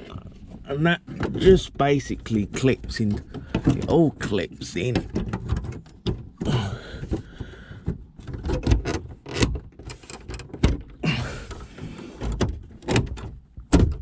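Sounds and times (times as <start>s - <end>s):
plastic scraping and rubbing: 0.0s - 14.0s.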